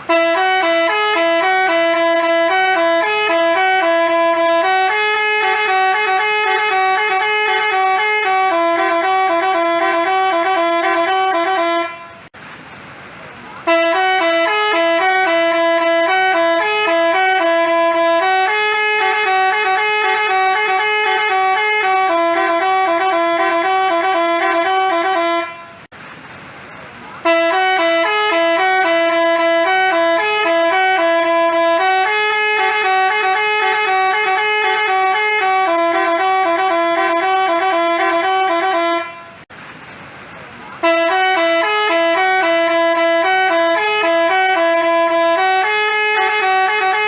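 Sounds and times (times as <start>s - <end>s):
bus air horn melody: 0.0s - 12.3s, 13.6s - 25.9s, 27.2s - 39.5s, 40.8s - 47.0s.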